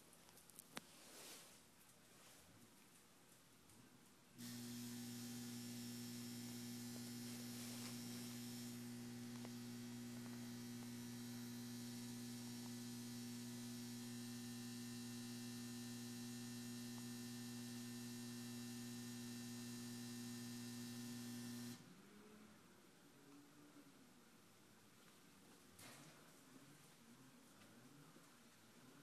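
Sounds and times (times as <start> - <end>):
faint hiss: 0.0 - 29.0
low electrical mains hum: 0.0 - 29.0.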